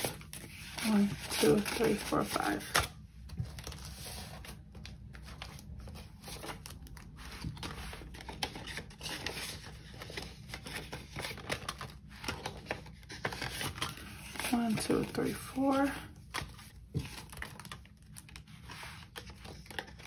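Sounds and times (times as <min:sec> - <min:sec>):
banknotes rustling and clicking: 0:00.0 - 0:20.0.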